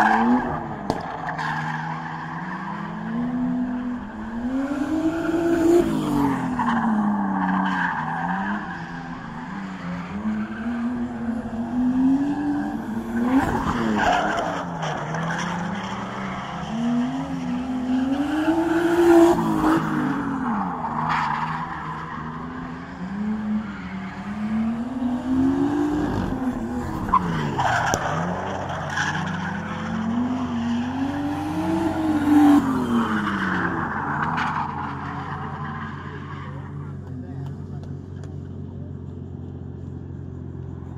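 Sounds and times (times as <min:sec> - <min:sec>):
tyres squealing and skidding: 0:00.0 - 0:37.3
car engines revving: 0:00.0 - 0:40.9.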